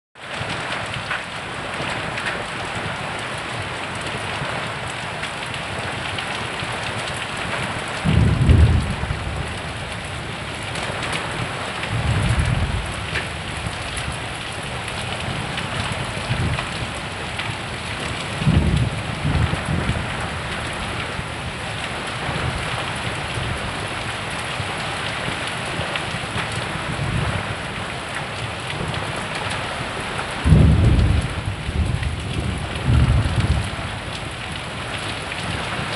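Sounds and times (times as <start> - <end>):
heavy rain pouring: 0.2 - 35.9.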